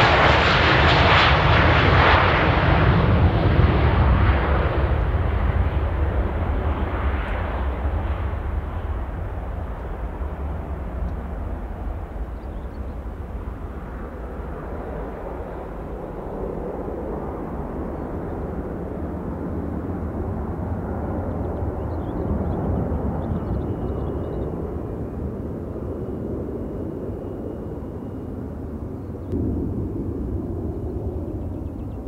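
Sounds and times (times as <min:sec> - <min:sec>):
jet engines deep rumble: 0:00.0 - 0:32.0.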